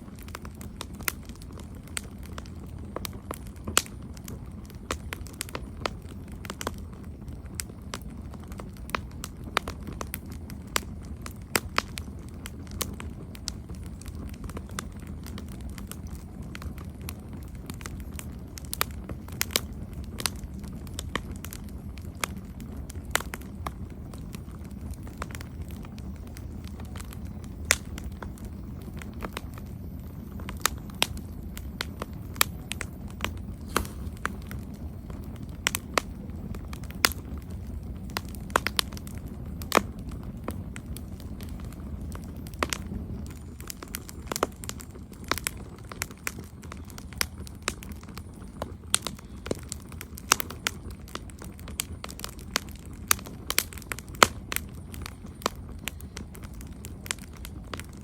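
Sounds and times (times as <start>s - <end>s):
campfire crackling: 0.0s - 58.0s
low steady rumble: 0.0s - 58.0s.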